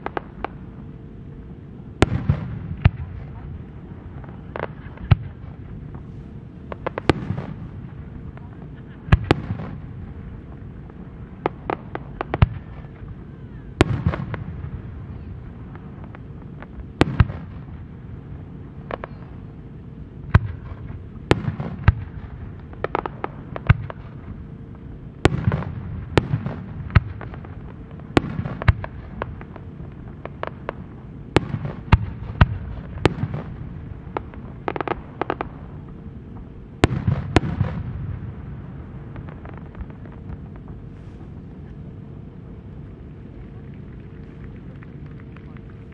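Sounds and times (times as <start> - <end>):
firework bangs with rolling echo: 2.0 - 19.4, 20.2 - 42.0.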